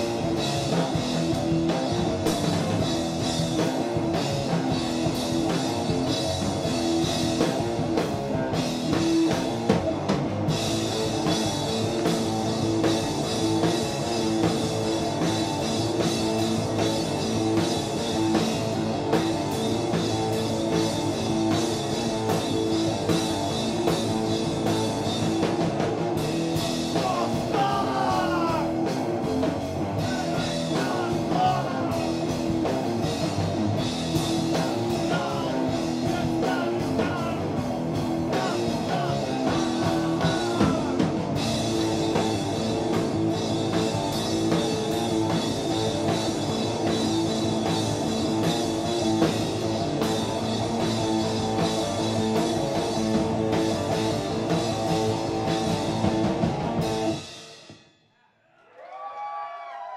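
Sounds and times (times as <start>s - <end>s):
electric guitar: 0.0s - 57.5s
drum kit with cymbals: 0.0s - 57.9s.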